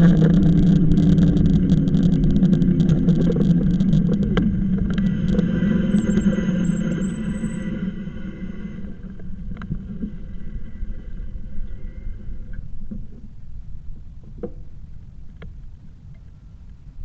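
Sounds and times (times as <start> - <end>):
e-bike rumble: 0.0 - 15.9.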